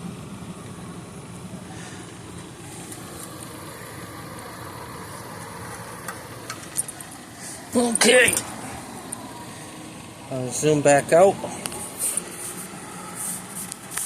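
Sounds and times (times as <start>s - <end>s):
low background hum and hiss: 0.0s - 14.0s.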